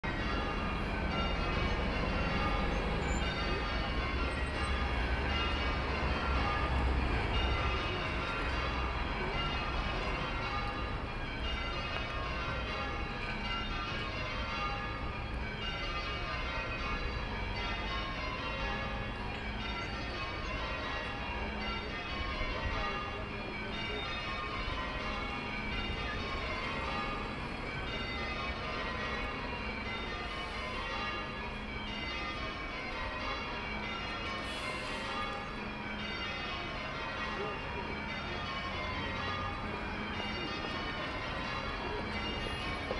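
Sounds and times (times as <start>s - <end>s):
church bells change ringing: 0.0s - 42.9s.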